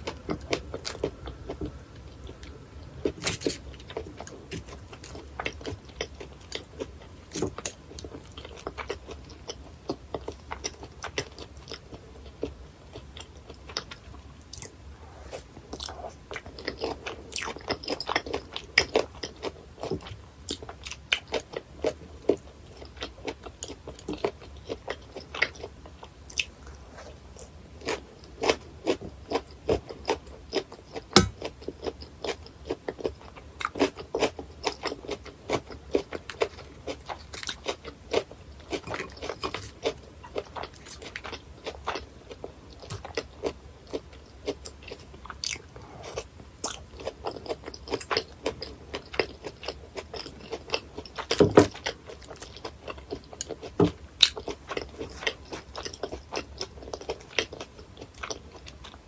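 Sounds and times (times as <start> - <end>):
chewing crunchy bones: 0.0 - 59.0.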